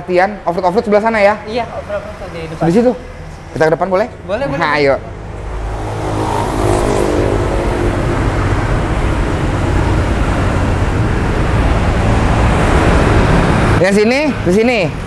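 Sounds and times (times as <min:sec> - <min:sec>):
passing motor vehicles: 0:00.0 - 0:15.0
engine hum: 0:00.9 - 0:15.0.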